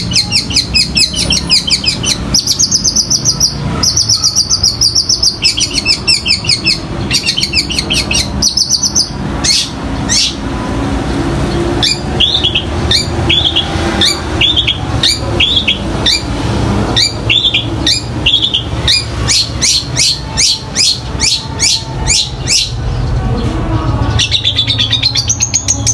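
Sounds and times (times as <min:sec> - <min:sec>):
bird singing mimicking chatter: 0:00.0 - 0:10.4, 0:11.5 - 0:25.9.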